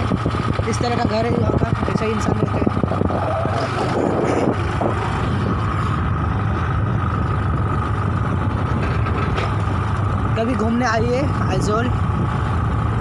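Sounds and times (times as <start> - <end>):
motorcycle engine running: 0.0 - 13.0
road noise: 0.0 - 13.0
wind noise on microphone: 0.0 - 13.0.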